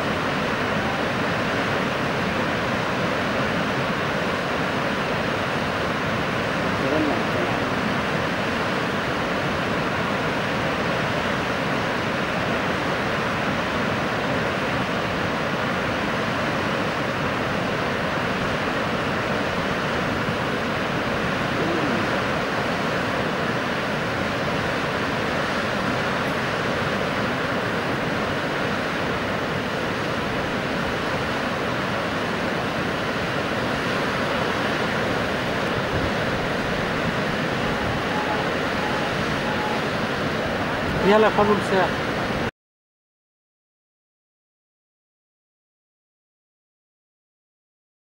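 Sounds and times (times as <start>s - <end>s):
river water rushing: 0.0s - 42.5s.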